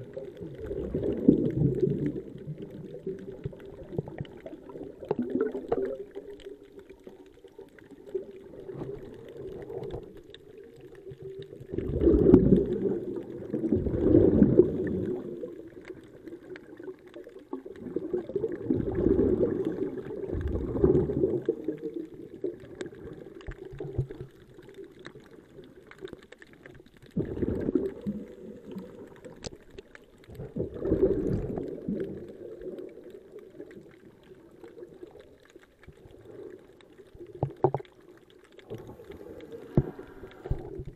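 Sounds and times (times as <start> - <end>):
underwater bubbling from regulator: 0.0 - 40.9.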